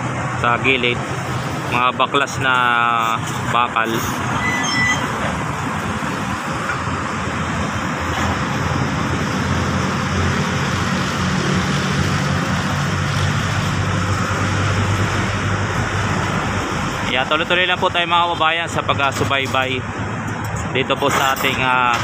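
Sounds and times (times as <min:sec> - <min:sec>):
diesel machinery running: 0:00.0 - 0:22.0
outdoor noise: 0:00.0 - 0:22.0.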